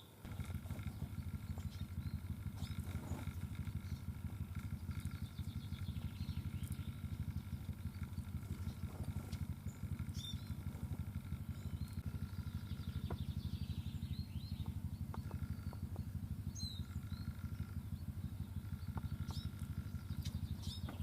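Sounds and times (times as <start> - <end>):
small birds chirping and twittering: 0.0 - 21.0
low fast throbbing: 0.2 - 21.0.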